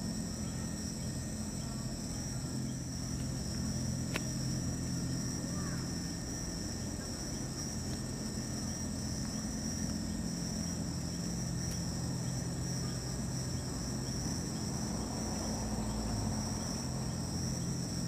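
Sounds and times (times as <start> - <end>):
crickets trilling: 0.0 - 18.0
low steady hum: 0.0 - 18.0.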